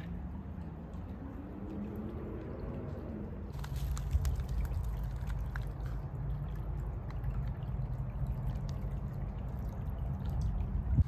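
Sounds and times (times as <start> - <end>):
creek water splashing over rocks: 0.0 - 11.0.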